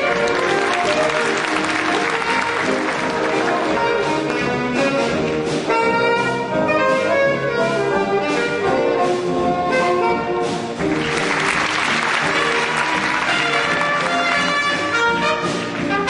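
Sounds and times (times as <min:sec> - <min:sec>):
jazz big band playing: 0:00.0 - 0:16.0.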